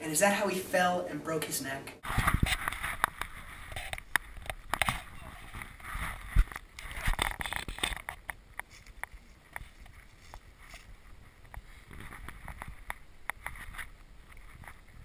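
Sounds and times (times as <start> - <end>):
wind rumbling on microphone: 2.0 - 15.0.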